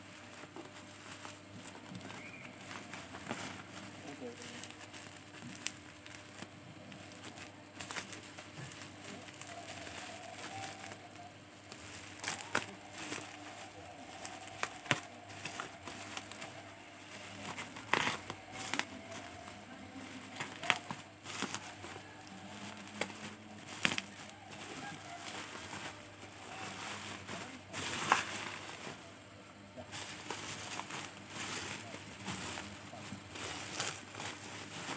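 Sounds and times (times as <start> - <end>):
plastic packaging crinkling: 0.0 - 34.9.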